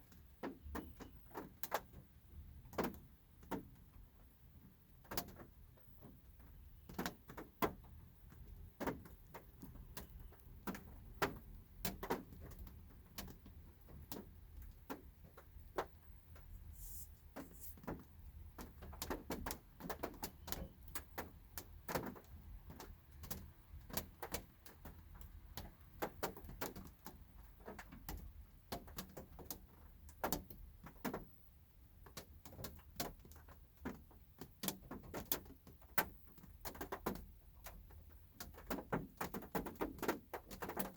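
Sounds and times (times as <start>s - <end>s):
raindrops tapping on car roof: 0.0s - 16.6s, 17.3s - 40.9s.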